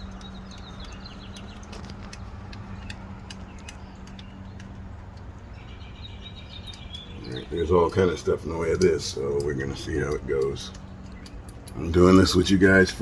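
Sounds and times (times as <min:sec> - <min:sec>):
birds chirping: 0:00.0 - 0:13.0
bolts clicking: 0:00.0 - 0:13.0
low hum: 0:00.0 - 0:13.0.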